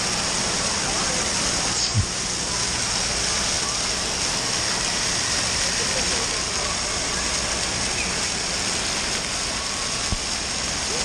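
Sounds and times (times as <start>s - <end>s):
spraying and falling water: 0.0s - 11.0s
babble of distant voices: 0.6s - 11.0s.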